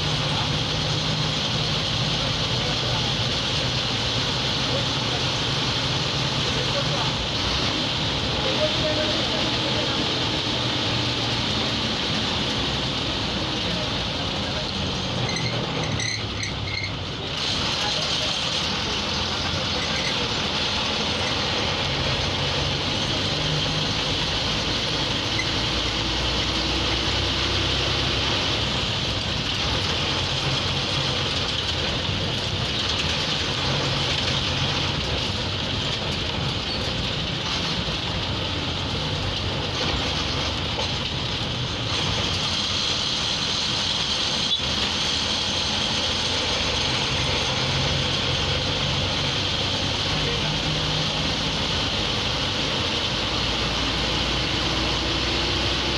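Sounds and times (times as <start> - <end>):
bus diesel engine running: 0.0 - 55.9
road and cabin noise: 0.0 - 55.9.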